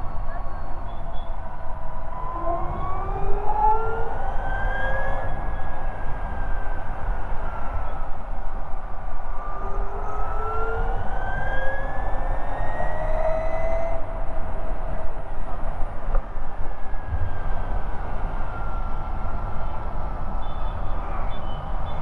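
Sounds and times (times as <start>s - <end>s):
wind and road rumble: 0.0s - 22.0s.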